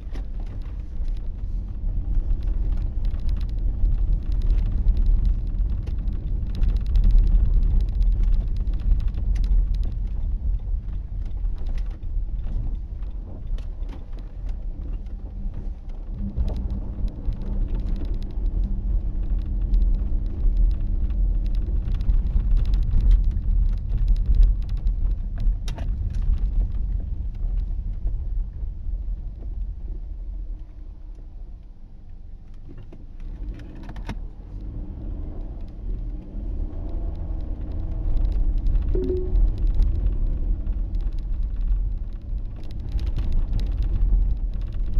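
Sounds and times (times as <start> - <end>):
car tyres and engine rumble: 0.0 - 44.9
small clicks and ticks: 0.0 - 44.9.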